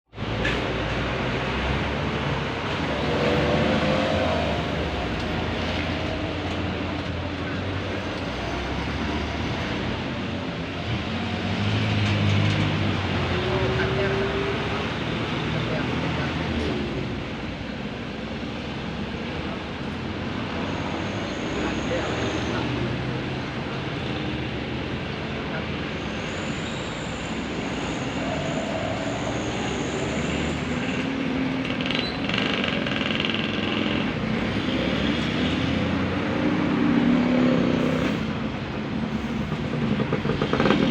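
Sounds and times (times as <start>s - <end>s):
diesel truck engines passing: 0.2s - 40.9s.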